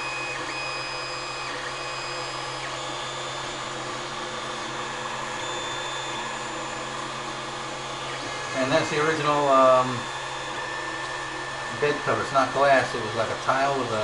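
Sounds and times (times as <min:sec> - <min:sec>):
cooling fans whirring: 0:00.0 - 0:14.0
stepper motors whining: 0:00.0 - 0:14.0.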